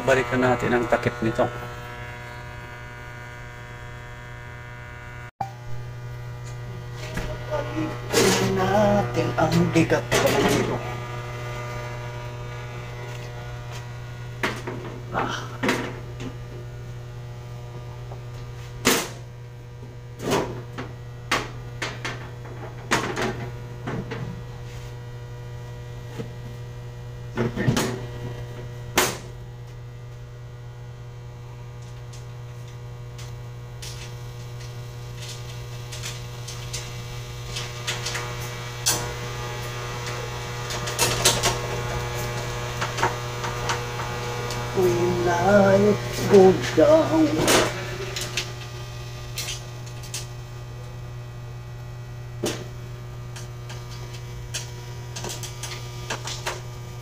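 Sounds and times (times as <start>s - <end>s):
mains hum: 0.0s - 57.0s.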